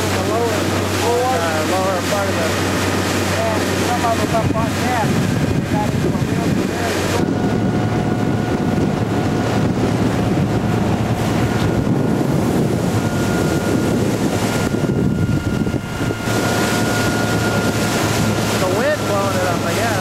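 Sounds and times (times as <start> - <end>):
outboard motor hum: 0.0 - 20.0
water wash: 0.0 - 20.0
wind buffeting microphone: 0.0 - 20.0.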